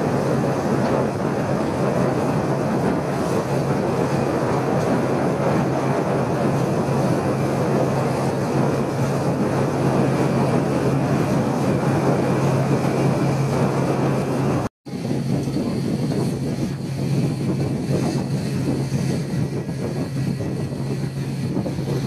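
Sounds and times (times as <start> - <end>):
ferry engine drone: 0.0 - 22.0
rushing water noise: 0.0 - 22.0.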